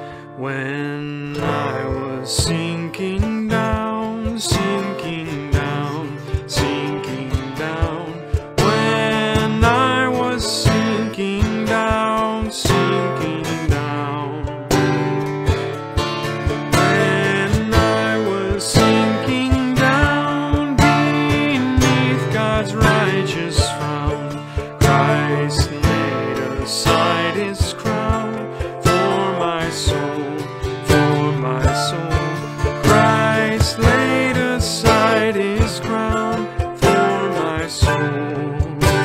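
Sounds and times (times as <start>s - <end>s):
person singing a hymn: 0.0s - 14.6s, 16.7s - 39.0s
acoustic guitar chords: 0.0s - 39.0s.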